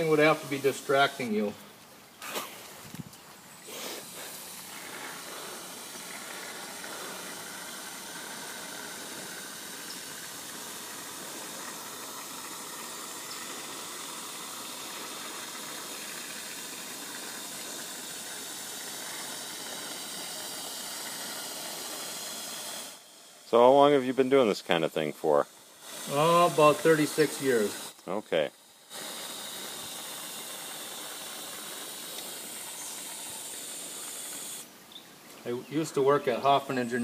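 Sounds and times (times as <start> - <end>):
spray foam can hissing: 0.0 - 1.5, 3.6 - 34.7.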